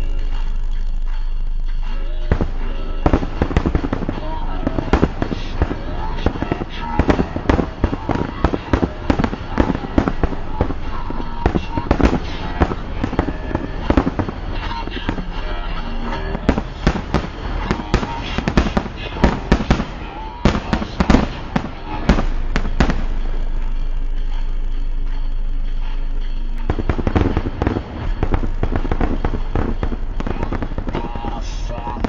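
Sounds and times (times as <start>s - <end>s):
fireworks crackling: 0.0s - 32.0s.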